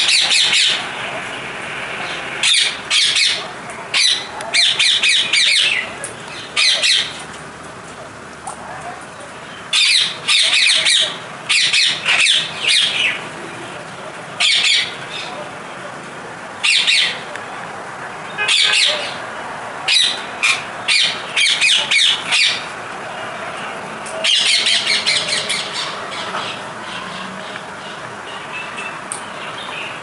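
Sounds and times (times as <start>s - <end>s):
parrots calling: 0.0s - 7.3s, 8.5s - 15.7s, 16.6s - 17.3s, 18.3s - 30.0s.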